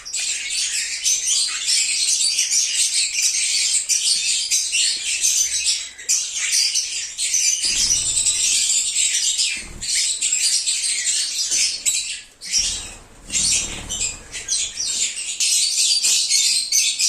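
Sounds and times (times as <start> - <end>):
birds chattering and chirping: 0.0 - 17.0.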